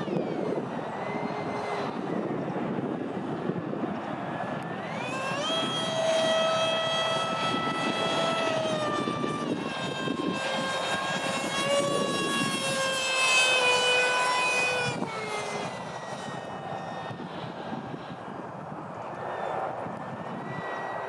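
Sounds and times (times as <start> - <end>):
electric ducted fan whining: 0.0 - 21.0.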